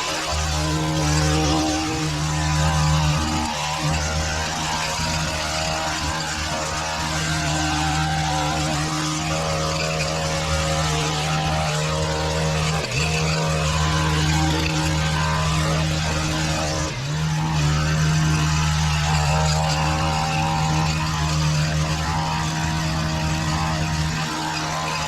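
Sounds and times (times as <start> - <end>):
small petrol engine running: 0.0 - 25.0.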